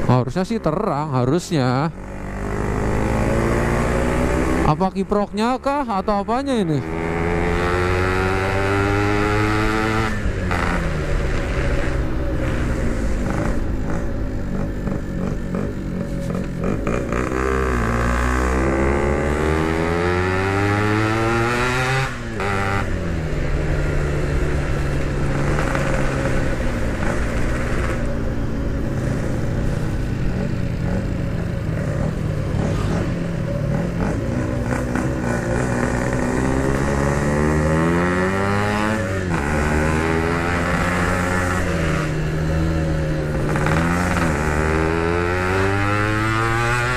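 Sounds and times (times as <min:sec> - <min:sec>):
two-stroke motorcycle revving: 0:00.0 - 0:46.9.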